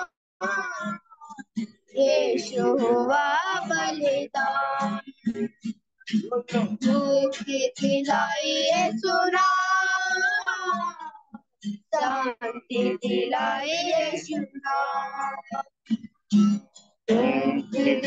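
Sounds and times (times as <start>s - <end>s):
person singing a slow melody: 0.0s - 11.3s, 11.9s - 15.6s, 16.3s - 18.0s.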